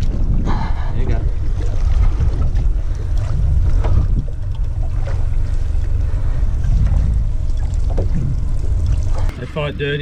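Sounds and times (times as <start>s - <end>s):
water lapping against boat hull: 0.0s - 10.0s
wind buffeting microphone: 0.0s - 10.0s.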